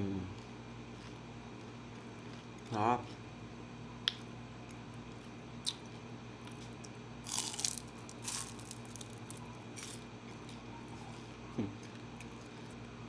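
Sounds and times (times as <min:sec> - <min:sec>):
crunchy chewing: 0:00.3 - 0:03.3, 0:04.1 - 0:13.0.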